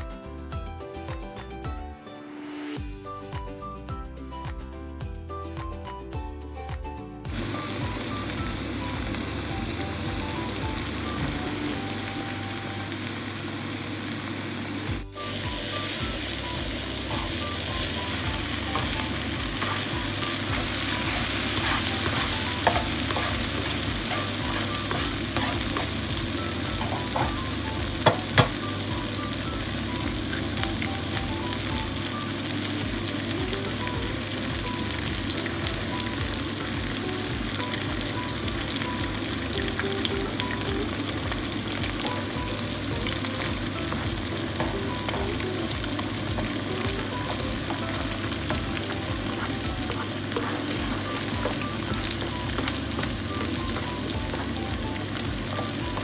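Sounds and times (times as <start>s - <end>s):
food frying in hot oil: 7.3s - 56.0s.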